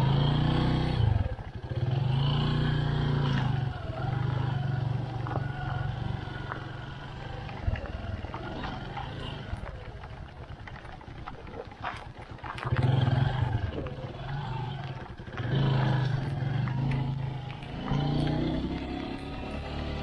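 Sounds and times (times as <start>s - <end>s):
motorcycle engine revving: 0.0s - 20.0s
road noise: 0.0s - 20.0s.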